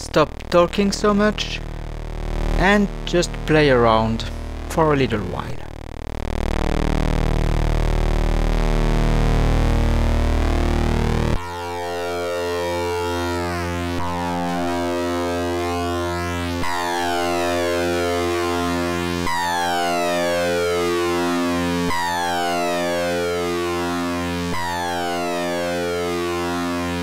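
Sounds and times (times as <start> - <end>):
buzzy modular synthesizer tone: 0.0 - 27.0
falling synthesizer sweeps: 0.0 - 27.0.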